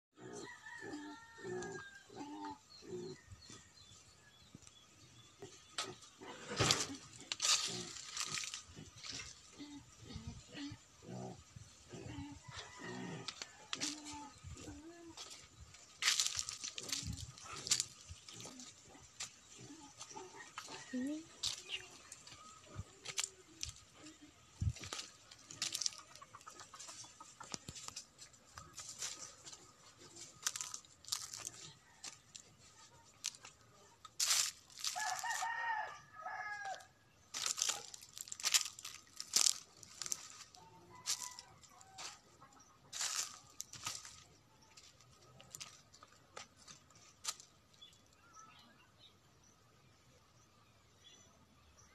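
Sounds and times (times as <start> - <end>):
chickens clucking: 0.2 - 48.2
small birds chirping: 0.6 - 34.8, 37.3 - 51.9.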